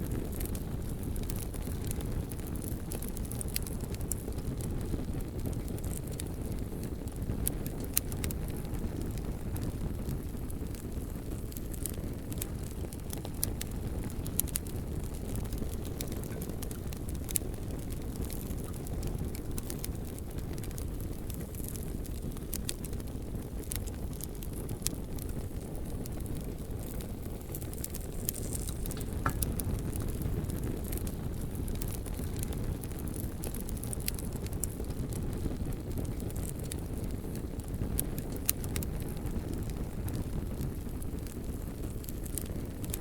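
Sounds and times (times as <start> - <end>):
bonfire crackling and popping: 0.0 - 43.0.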